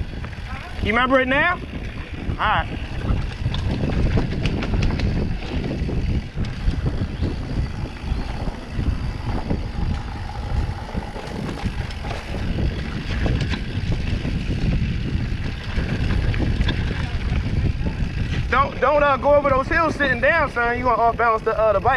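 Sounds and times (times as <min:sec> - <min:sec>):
bike rattles and clicks: 0:00.0 - 0:21.9
bike rolling rumble: 0:00.0 - 0:21.9
wind buffeting the microphone: 0:00.0 - 0:21.9.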